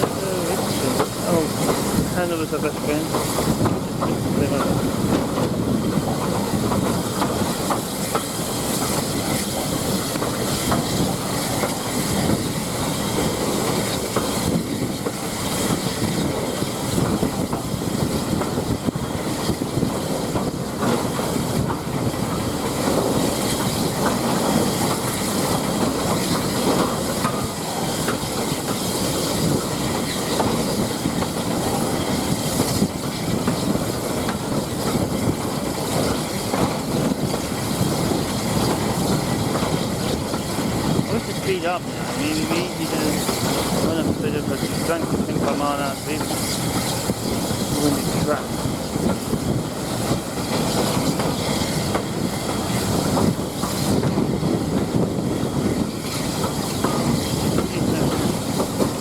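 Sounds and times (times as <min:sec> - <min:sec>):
train carriage rumbling on track: 0:00.0 - 0:59.0.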